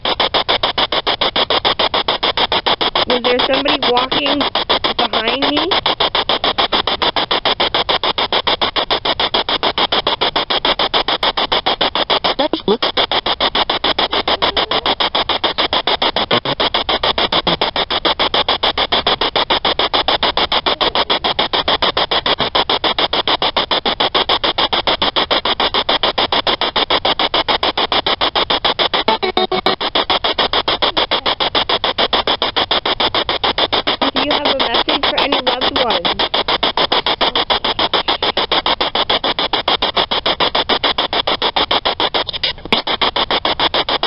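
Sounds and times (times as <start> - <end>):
faint radio tones: 0.0 - 25.9, 27.7 - 43.4
chopping radio static bursts: 0.0 - 44.0.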